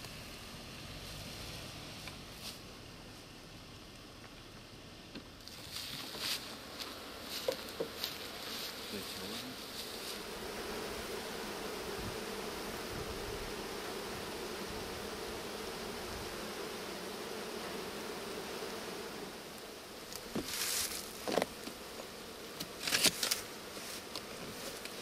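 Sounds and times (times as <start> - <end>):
honeybees humming: 0.0 - 25.0.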